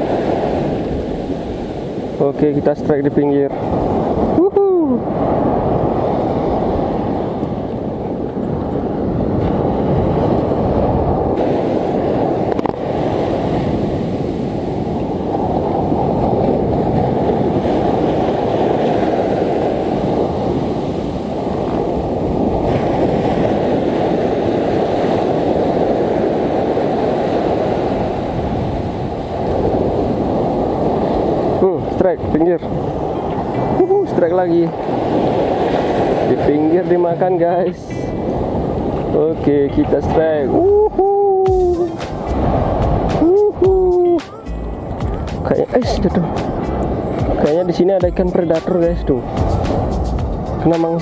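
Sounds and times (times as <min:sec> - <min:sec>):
surf breaking on beach: 0:00.0 - 0:51.0
wind buffeting microphone: 0:00.0 - 0:51.0.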